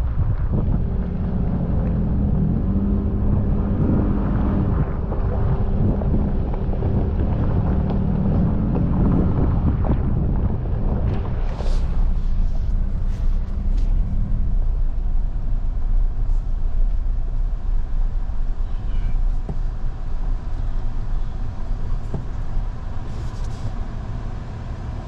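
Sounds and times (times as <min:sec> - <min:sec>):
truck engine and tyre rumble: 0:00.0 - 0:25.0.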